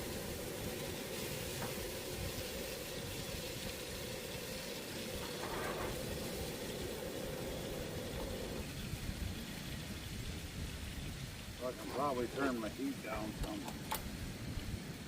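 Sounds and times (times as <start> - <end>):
bacon sizzling in a frying pan: 0.0 - 13.4.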